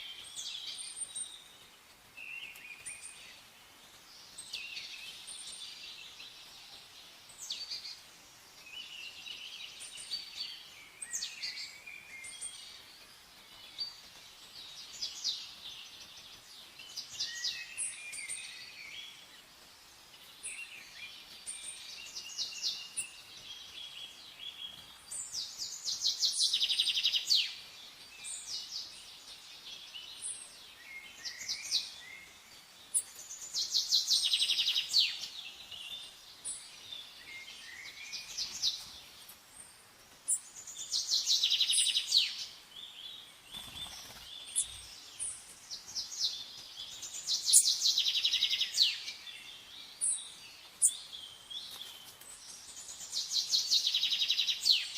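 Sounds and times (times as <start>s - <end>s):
bird song trill: 0.0s - 3.5s, 4.1s - 19.5s, 20.1s - 54.9s
birds chirping: 0.0s - 54.9s.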